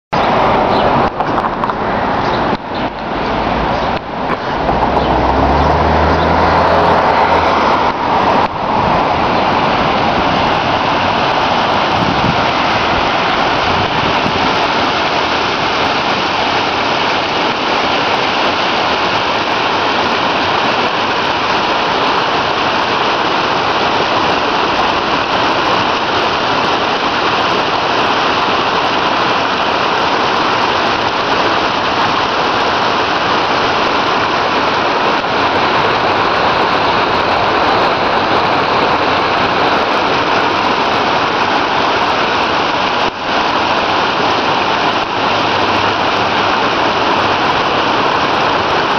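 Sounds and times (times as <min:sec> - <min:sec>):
water pouring into canal: 0:00.2 - 0:48.9.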